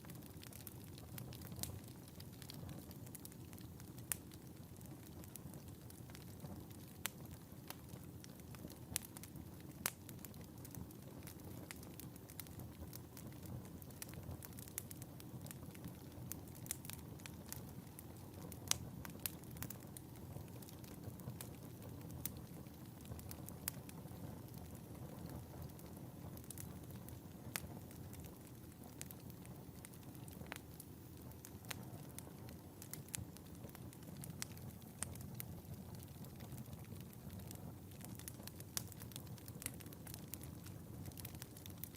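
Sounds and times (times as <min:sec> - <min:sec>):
wood fire popping and crackling: 0:00.0 - 0:41.9.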